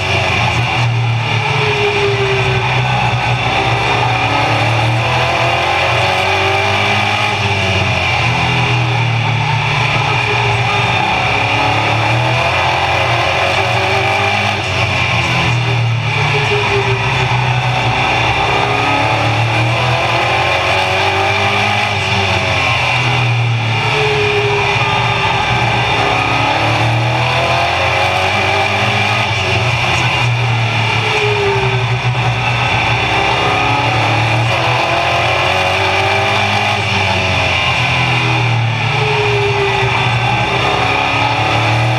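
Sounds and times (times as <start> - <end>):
drivetrain noise: 0.0 - 41.9
race car engine at speed: 0.0 - 41.9.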